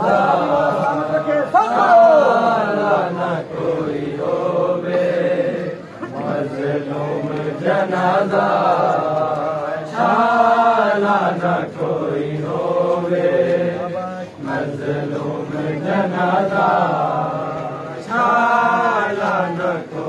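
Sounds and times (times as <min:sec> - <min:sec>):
men chanting a mourning lament: 0:00.0 - 0:20.0.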